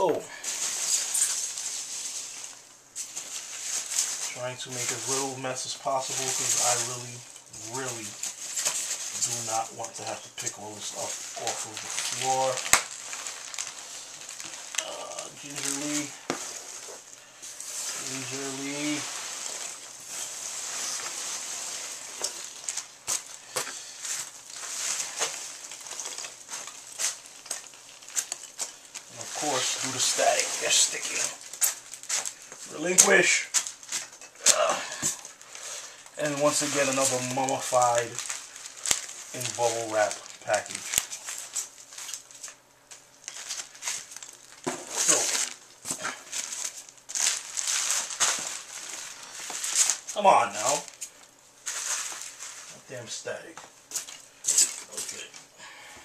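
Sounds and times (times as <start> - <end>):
bubble wrap crinkling: 0.0 - 55.9
packing peanuts rustling: 0.0 - 55.9
sharp crackles: 0.0 - 55.9.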